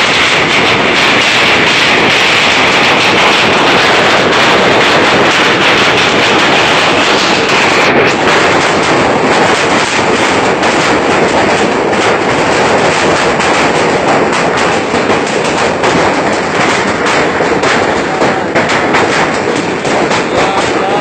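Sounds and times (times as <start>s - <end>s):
hail clattering on roofs: 0.0s - 21.0s.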